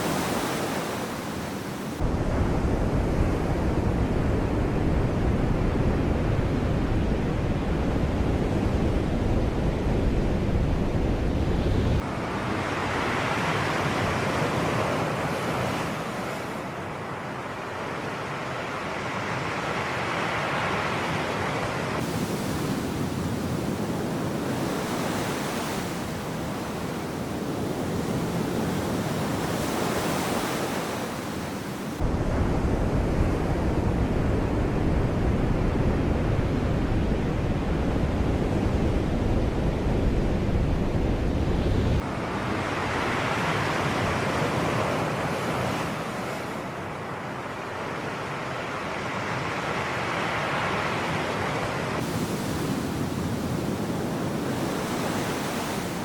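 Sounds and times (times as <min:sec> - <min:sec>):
sea waves washing on shore: 0:00.0 - 0:04.5, 0:11.9 - 0:56.0
wind rumbling on microphone: 0:00.0 - 0:16.4, 0:21.4 - 0:46.7, 0:51.0 - 0:56.0.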